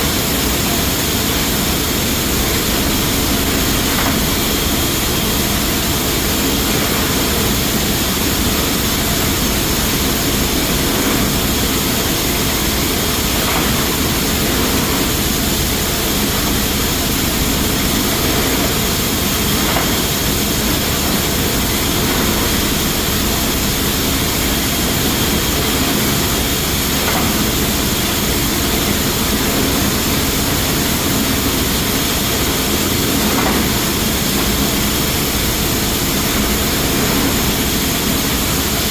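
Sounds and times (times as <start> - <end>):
machinery humming and hissing: 0.0 - 38.9.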